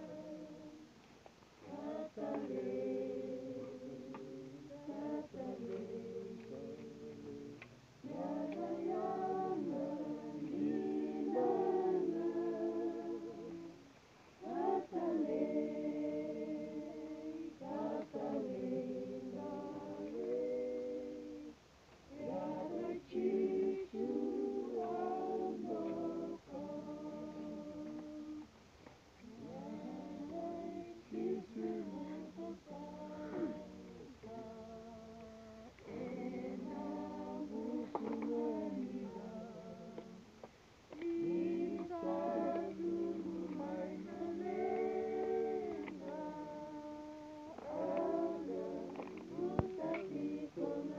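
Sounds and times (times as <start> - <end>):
group singing a hymn unaccompanied: 0.0 - 28.6, 29.2 - 50.9.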